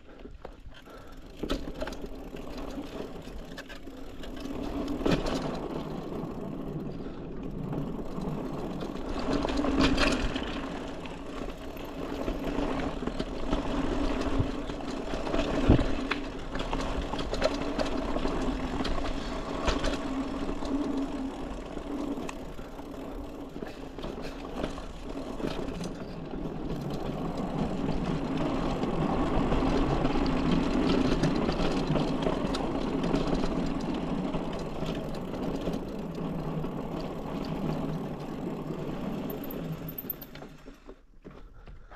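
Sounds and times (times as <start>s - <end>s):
bike tyres humming and rattling: 0.0s - 41.6s.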